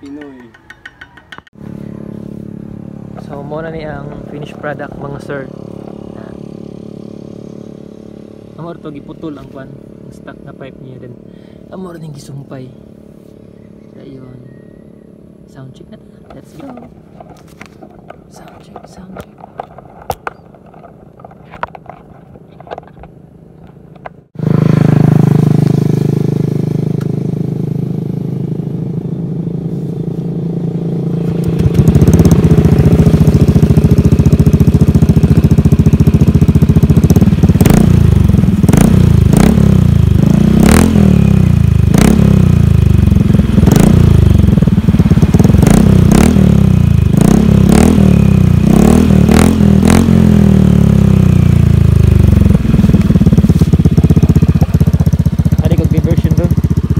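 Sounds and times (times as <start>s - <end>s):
scooter engine revving: 0.7s - 56.9s.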